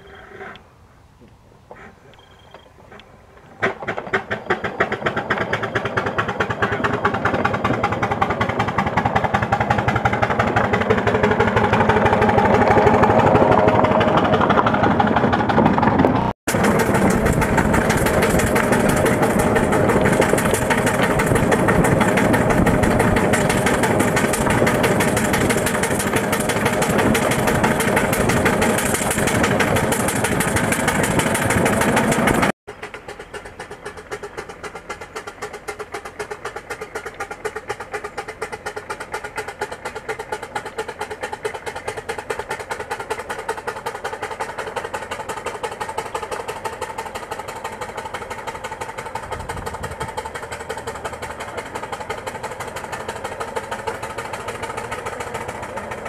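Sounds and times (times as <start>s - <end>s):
steam engine exhaust beats: 1.2s - 56.0s.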